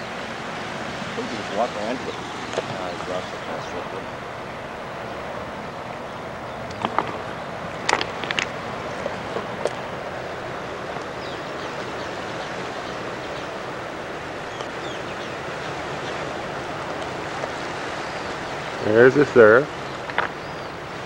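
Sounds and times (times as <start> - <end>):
ocean surf: 0.0 - 21.0
wind noise: 0.0 - 21.0.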